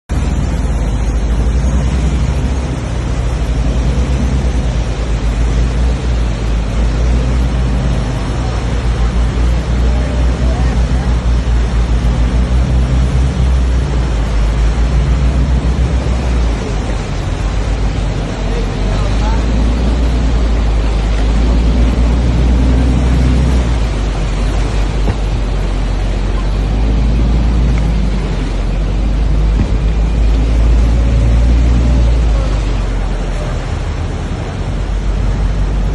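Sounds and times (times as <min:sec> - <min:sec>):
boat engine rumble: 0:00.0 - 0:35.9
water rushing: 0:00.0 - 0:35.9
rushing wind: 0:00.1 - 0:35.9.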